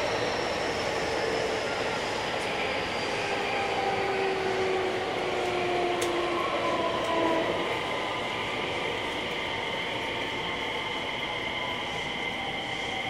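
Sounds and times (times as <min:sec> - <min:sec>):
train rolling noise: 0:00.0 - 0:13.0.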